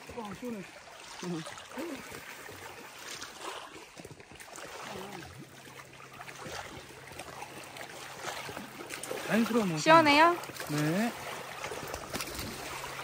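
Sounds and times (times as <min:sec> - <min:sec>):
small waves lapping: 0:00.0 - 0:13.0
water sloshing around wading legs: 0:00.0 - 0:13.0.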